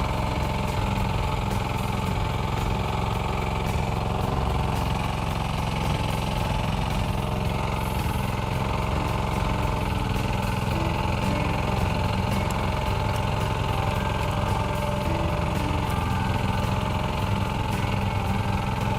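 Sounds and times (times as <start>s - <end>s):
diesel excavator engine chugging: 0.0s - 18.9s.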